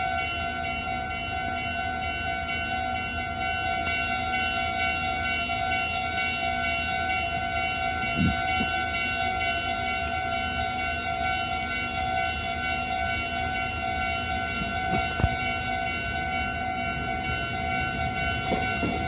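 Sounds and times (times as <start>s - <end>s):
level crossing alarm: 0.0s - 19.0s.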